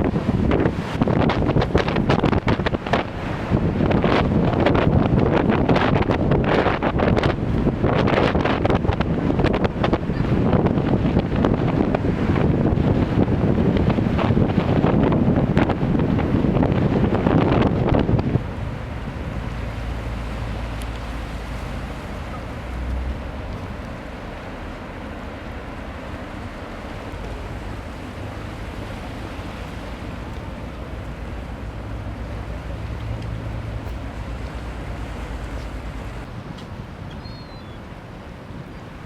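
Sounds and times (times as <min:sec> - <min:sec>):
light wind: 0:00.0 - 0:39.0
ship engine drone: 0:00.0 - 0:39.0
water noise: 0:00.0 - 0:39.0
wind buffeting microphone: 0:00.0 - 0:39.0.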